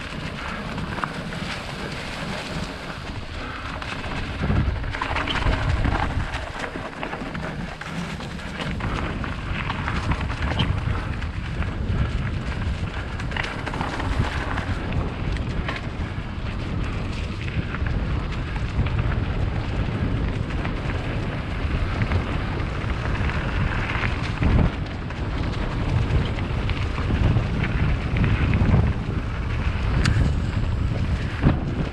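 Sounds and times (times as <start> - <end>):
bike rattling and clicking: 0.0 - 31.9
tyres on dirt trail: 0.0 - 31.9
wind buffeting microphone: 0.0 - 31.9.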